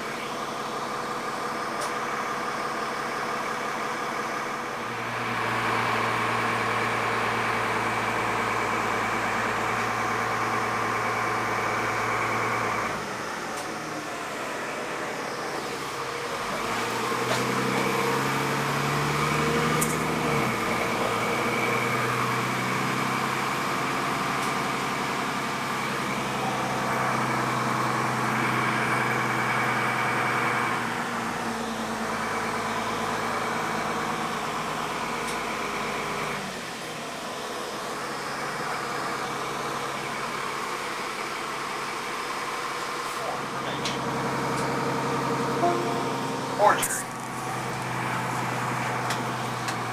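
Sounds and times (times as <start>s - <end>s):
city bus engine running: 0.0s - 49.9s.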